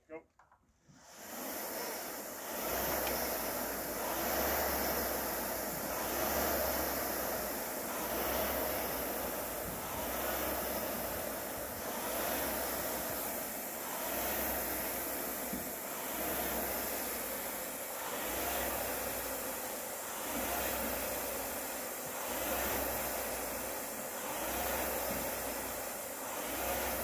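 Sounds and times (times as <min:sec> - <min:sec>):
rowing machine flywheel whirring: 0:00.9 - 0:27.0.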